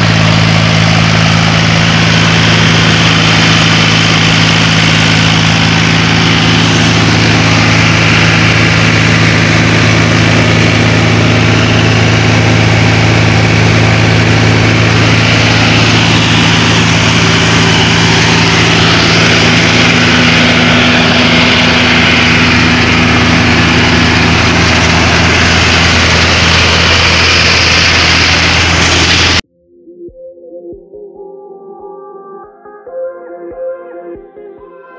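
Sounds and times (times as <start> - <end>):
thresher mechanical rush: 0.0 - 29.4
tractor diesel engine running: 0.0 - 29.4.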